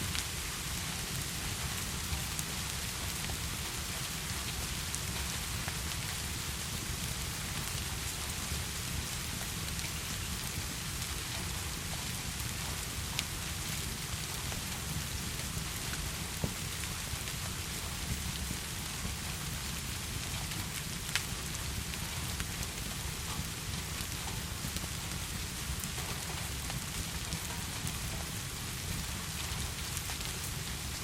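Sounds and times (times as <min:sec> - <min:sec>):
heavy rain: 0:00.0 - 0:31.0
fireplace crackles: 0:00.1 - 0:31.0.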